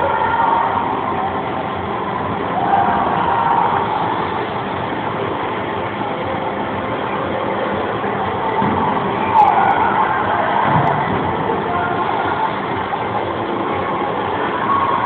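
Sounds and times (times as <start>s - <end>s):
echoing swimming pool hall din: 0.0s - 15.0s.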